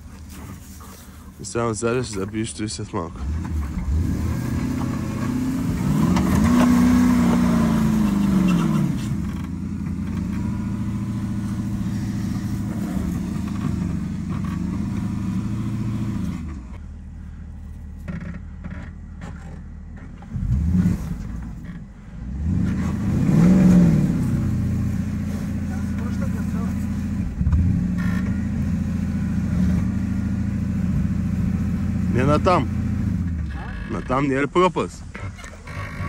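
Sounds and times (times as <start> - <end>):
car engine revving: 2.9 - 34.4.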